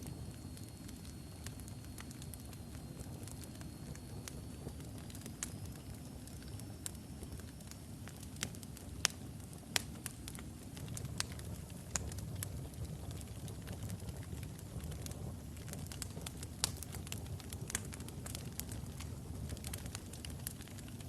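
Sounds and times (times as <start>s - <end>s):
logs burning in fireplace: 0.0s - 21.0s.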